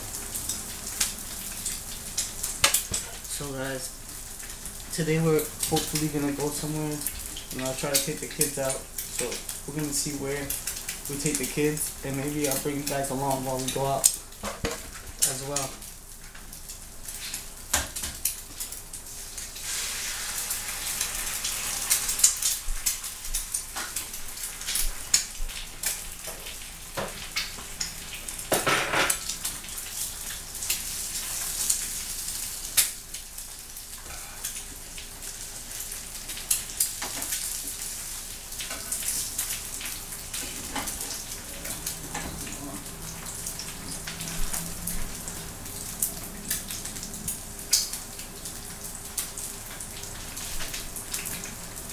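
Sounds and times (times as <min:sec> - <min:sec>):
eggs sizzling in skillet: 0:00.0 - 0:51.9.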